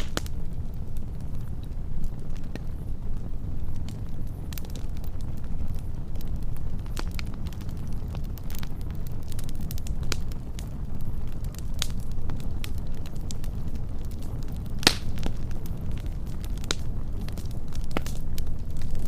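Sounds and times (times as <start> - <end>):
fire crackles and pops: 0.0 - 19.0
wood fire rumble: 0.0 - 19.0.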